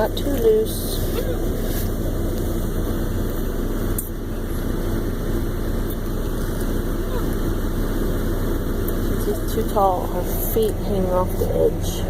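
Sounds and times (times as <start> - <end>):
truck engine rumble inside cabin: 0.0 - 12.0.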